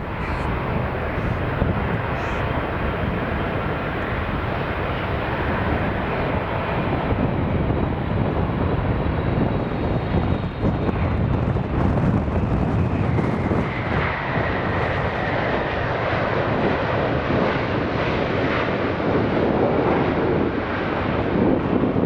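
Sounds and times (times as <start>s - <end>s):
faint engine whine: 0.0s - 17.9s
jet engines passing close: 0.0s - 22.0s
wind buffeting microphone: 0.0s - 22.0s.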